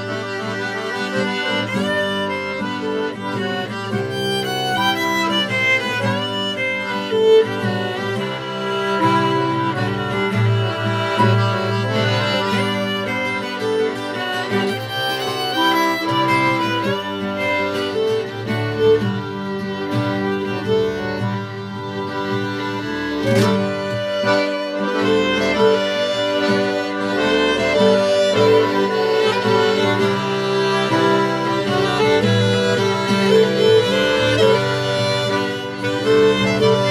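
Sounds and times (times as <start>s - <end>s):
accordion chords: 0.0s - 36.9s
acoustic guitar: 0.0s - 36.9s
saxophone: 0.0s - 36.9s
violin melody: 0.0s - 36.9s.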